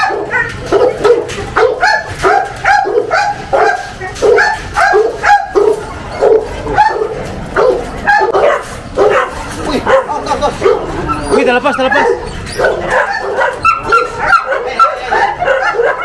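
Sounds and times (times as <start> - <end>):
dog barking rapidly: 0.0 - 16.0.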